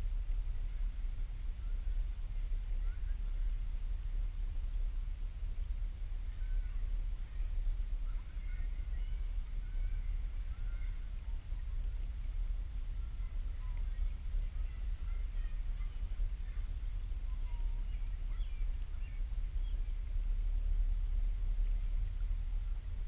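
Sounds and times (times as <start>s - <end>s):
steady low rumble: 0.0s - 23.0s
faint bird chirps: 0.1s - 23.0s.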